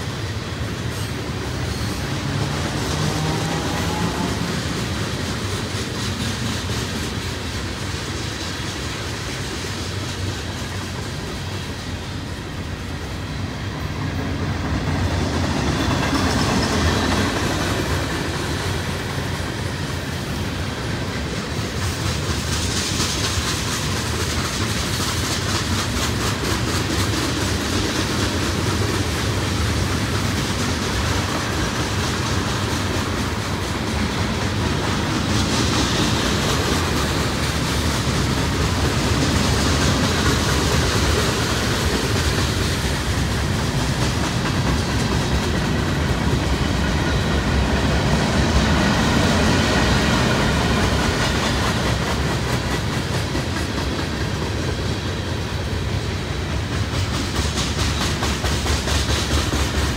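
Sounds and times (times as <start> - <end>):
freight train rolling past: 0.0 - 59.9
wheels clicking over rail joints: 0.0 - 59.9.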